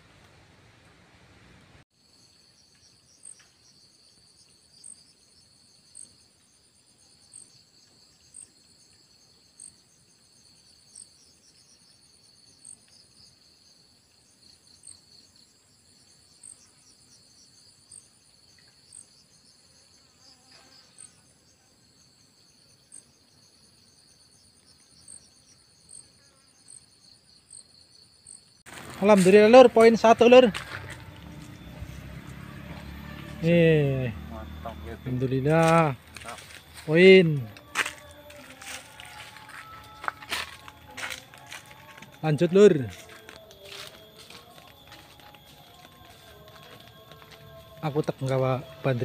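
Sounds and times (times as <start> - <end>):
insect chirp: 1.9 - 49.0
insects droning: 1.9 - 49.0.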